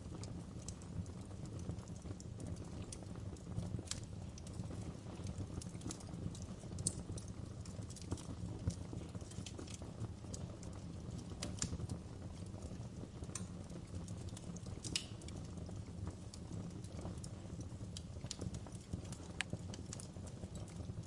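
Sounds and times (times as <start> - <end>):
fire crackles and pops: 0.0 - 21.0
wood fire burning: 0.0 - 21.0.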